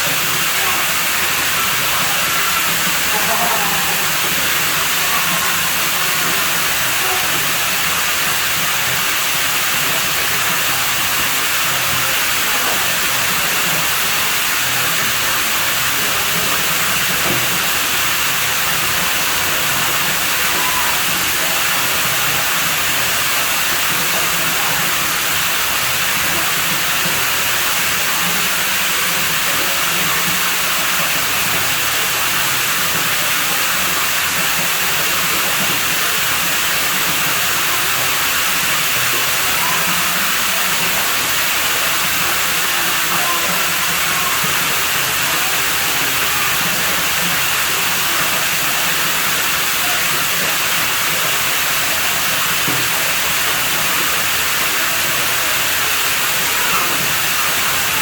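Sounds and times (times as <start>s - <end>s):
water running: 0.0s - 58.0s.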